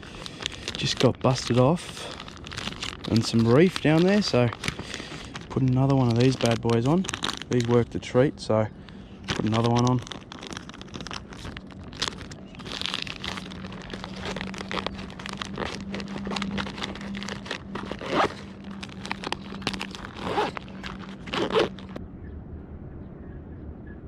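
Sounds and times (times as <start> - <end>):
plastic packaging crinkling: 0.0 - 8.2, 8.8 - 22.0
faint low hum: 0.0 - 24.0.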